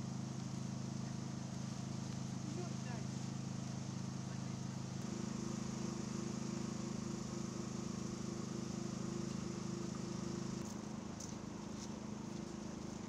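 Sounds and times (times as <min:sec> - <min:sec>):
faint outdoor hiss: 0:00.0 - 0:13.0
low engine hum: 0:00.0 - 0:13.0.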